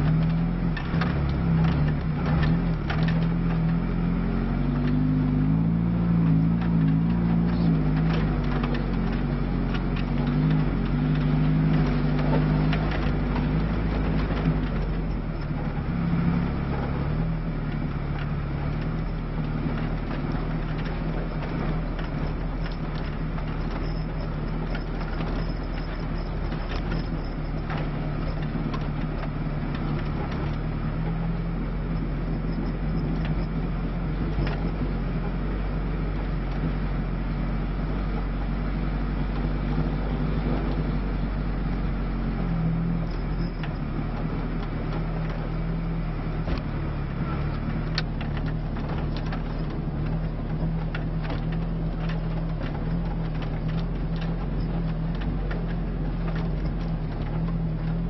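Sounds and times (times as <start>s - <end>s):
car engine running under load: 0.0s - 58.0s.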